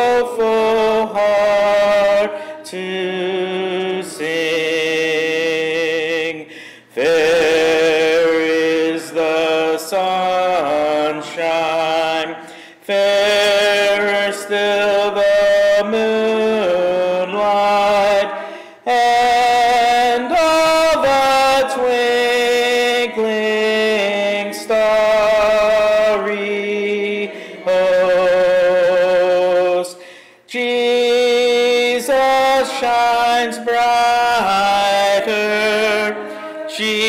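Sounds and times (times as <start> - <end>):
hymn sung in long notes: 0.0 - 37.0.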